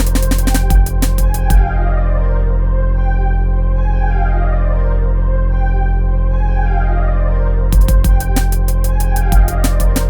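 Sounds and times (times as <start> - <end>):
deep bass drone: 0.0 - 10.0
synth chords: 0.0 - 10.0.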